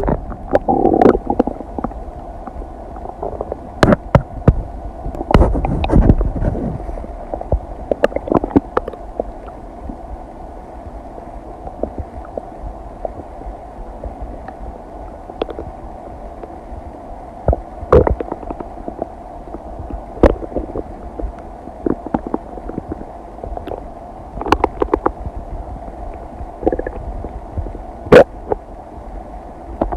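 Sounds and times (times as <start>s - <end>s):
stomach gurgling: 0.0s - 10.0s, 11.5s - 14.6s, 15.4s - 15.8s, 17.4s - 28.7s.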